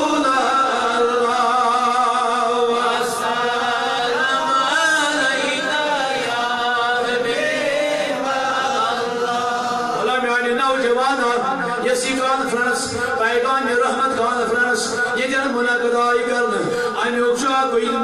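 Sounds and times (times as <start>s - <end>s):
man chanting through microphones: 0.0s - 7.3s, 8.7s - 18.0s.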